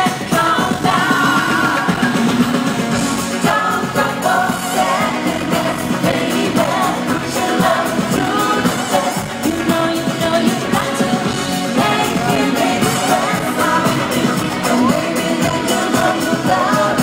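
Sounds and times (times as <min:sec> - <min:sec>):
live pop band playing: 0:00.0 - 0:17.0
lead singer singing: 0:03.3 - 0:17.0.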